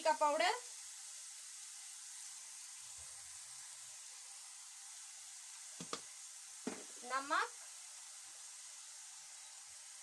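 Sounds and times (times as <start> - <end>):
minced meat sizzling in oil: 0.0 - 10.0.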